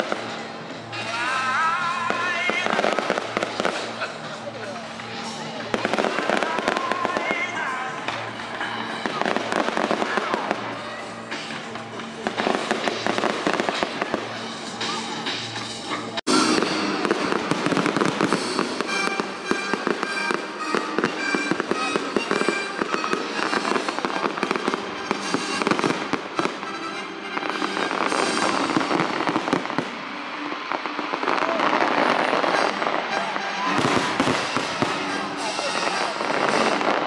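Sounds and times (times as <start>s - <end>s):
fireworks crackling and banging: 0.0s - 37.0s
music playing: 0.0s - 37.0s
voices: 0.0s - 37.0s.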